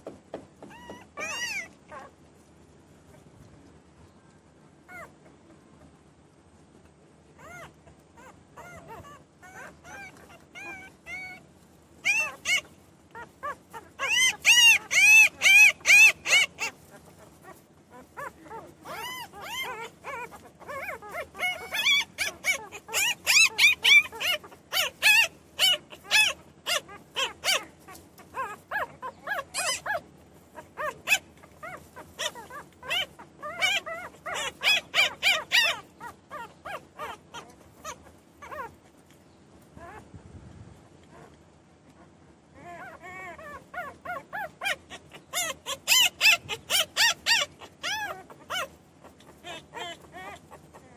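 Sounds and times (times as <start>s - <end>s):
puppies crying and whining: 0.6s - 2.2s, 4.8s - 5.3s, 7.4s - 38.9s, 39.8s - 40.1s, 42.0s - 50.9s.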